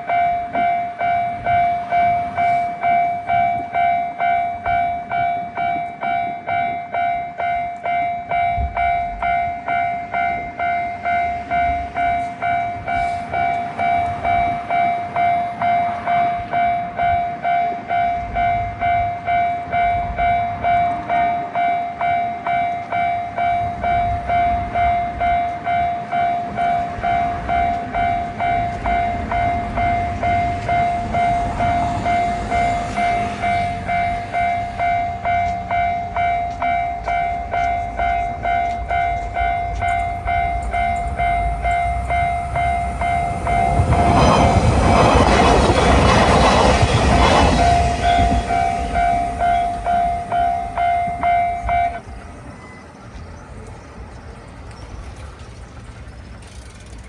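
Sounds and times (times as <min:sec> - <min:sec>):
railroad crossing bell clanging: 0:00.0 - 0:57.0
train rumbling: 0:00.0 - 0:57.0.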